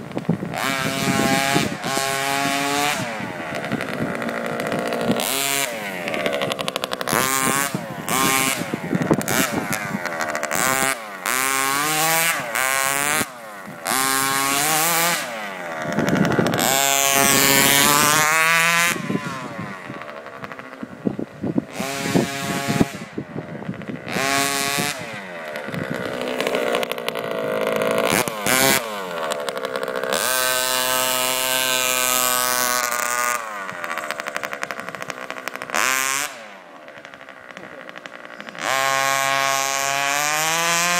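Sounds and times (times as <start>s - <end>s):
small two-stroke engine revving: 0.0s - 40.9s.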